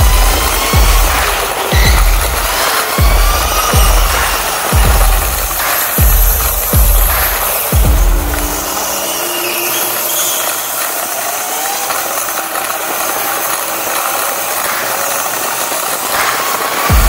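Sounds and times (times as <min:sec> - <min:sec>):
electric motor whine: 0:00.0 - 0:17.0
wheels rattling on track: 0:00.0 - 0:17.0.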